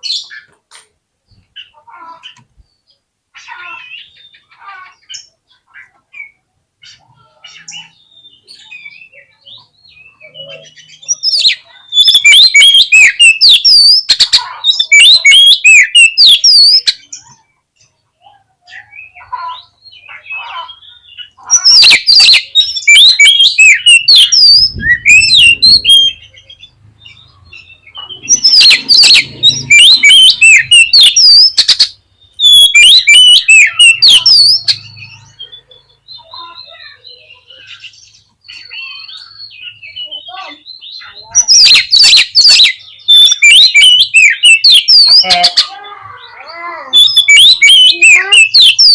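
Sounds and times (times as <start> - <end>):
soft bird calls: 0.0 - 48.9
songbird whistles and chattering: 3.4 - 48.9.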